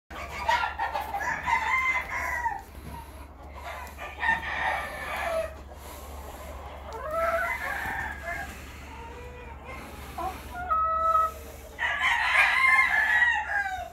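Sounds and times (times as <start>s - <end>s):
roosters crowing: 0.1s - 13.9s.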